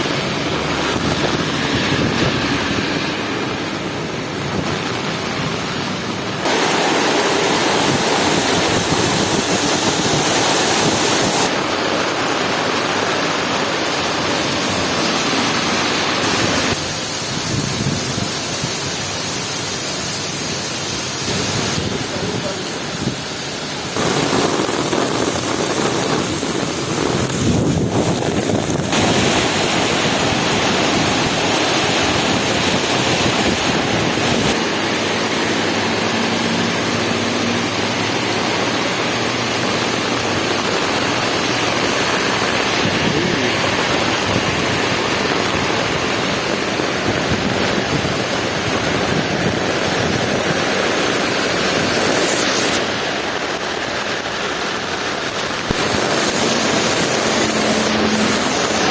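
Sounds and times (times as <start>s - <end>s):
heavy rain pouring: 0.0s - 58.9s
strong wind: 0.0s - 58.9s.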